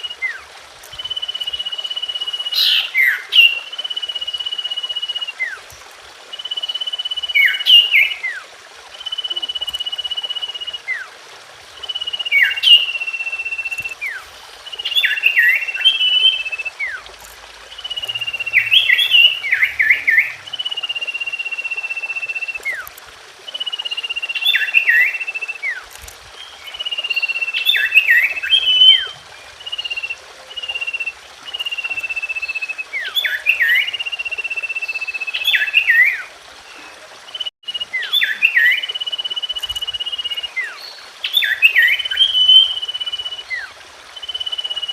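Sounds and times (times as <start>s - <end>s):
bird whistling song: 0.0s - 5.7s, 6.3s - 11.1s, 11.8s - 17.1s, 17.7s - 44.9s.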